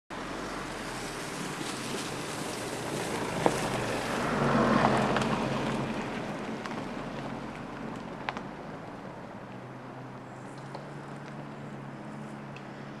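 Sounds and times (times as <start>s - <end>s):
car driving on dirt track: 0.1s - 13.0s.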